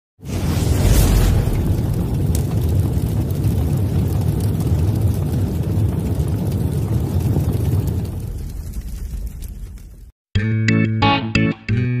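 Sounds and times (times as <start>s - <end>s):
deep rumble: 0.2s - 10.1s.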